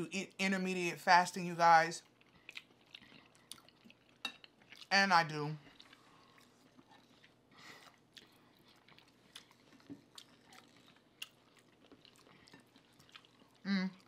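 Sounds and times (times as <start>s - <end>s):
chewing and mouth clicks: 2.0s - 4.9s, 5.6s - 14.0s.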